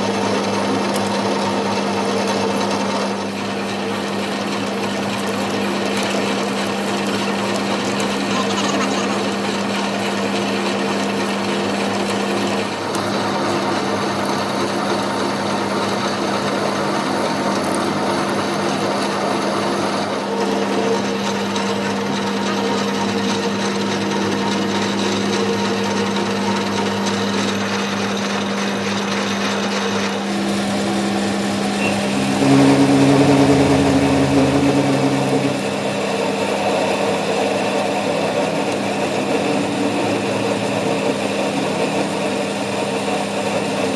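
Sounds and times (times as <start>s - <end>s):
workshop machinery hum: 0.0s - 43.9s.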